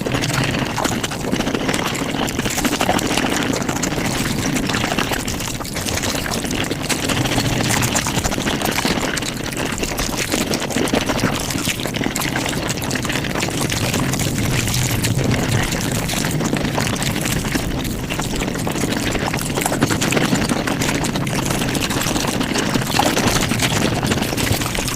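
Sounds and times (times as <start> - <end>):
sped-up chewing sounds: 0.0 - 24.9.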